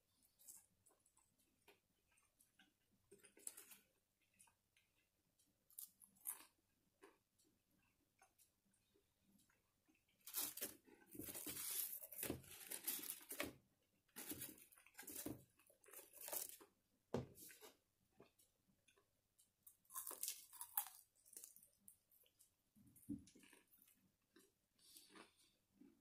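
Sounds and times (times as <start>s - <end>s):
chewing and crunching fried food: 0.0s - 26.0s.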